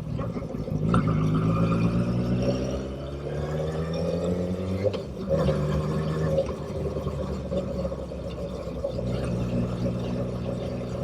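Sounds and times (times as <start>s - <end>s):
motorcycle engine hum: 0.0s - 11.0s.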